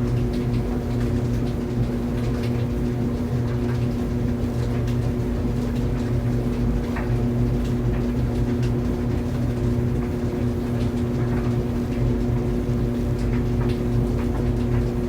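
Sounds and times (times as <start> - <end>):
clothes dryer motor hum: 0.0 - 15.0.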